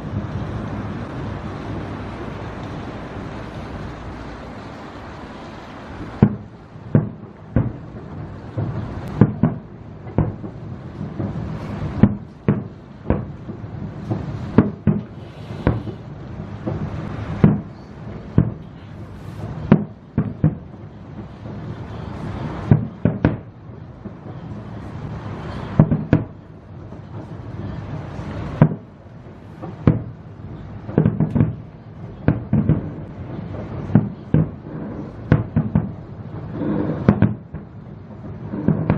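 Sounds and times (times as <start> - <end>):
fireworks bursting with loud bangs: 0.0 - 38.9.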